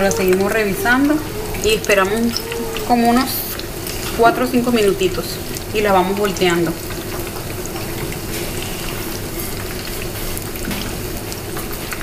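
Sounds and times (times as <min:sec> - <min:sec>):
deep-frying oil sizzling: 0:00.0 - 0:12.0.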